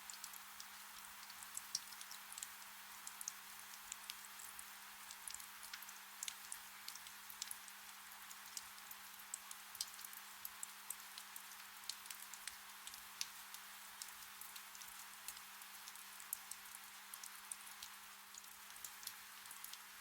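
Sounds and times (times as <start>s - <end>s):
water drips: 0.1s - 20.0s.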